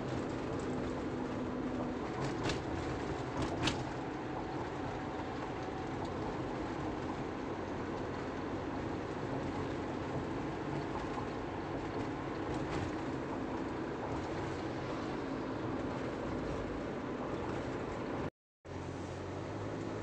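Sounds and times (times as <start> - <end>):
vehicle road and engine rumble: 0.0 - 20.0.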